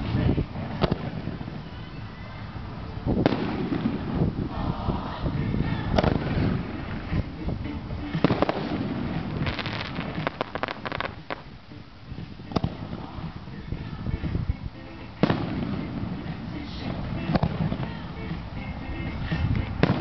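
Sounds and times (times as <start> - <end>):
crackling fireworks reports: 0.0 - 20.0
fireworks bangs: 0.0 - 20.0.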